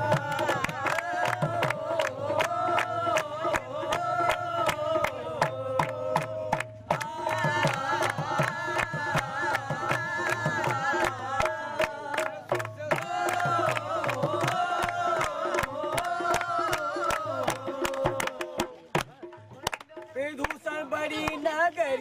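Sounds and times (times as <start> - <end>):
group singing: 0.0 - 19.3
hand-clapping beat: 0.0 - 21.9.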